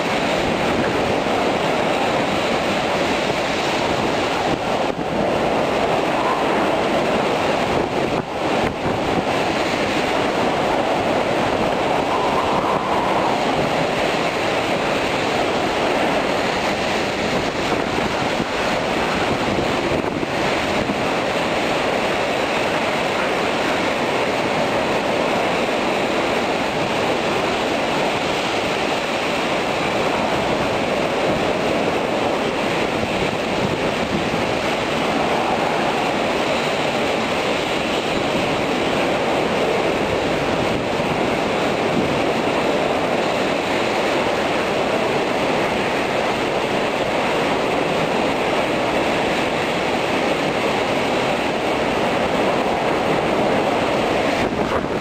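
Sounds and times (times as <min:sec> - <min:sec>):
heavy rain: 0:00.0 - 0:55.0
strong wind: 0:00.0 - 0:55.0.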